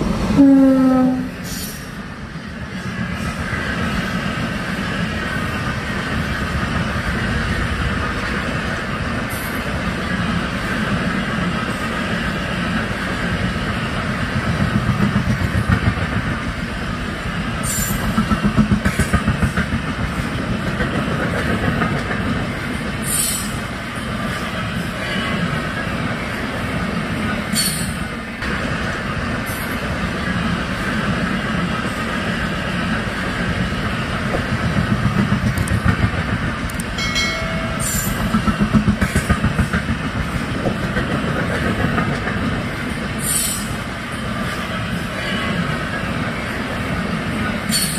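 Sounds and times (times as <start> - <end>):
train wheels rumbling on rails: 0.0 - 47.9
clickety-clack over rail joints: 1.4 - 47.9.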